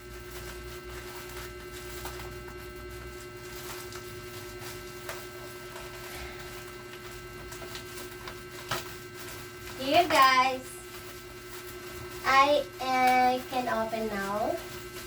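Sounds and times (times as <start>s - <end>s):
electrical hum: 0.0s - 15.0s
packaging rustling: 0.0s - 15.0s.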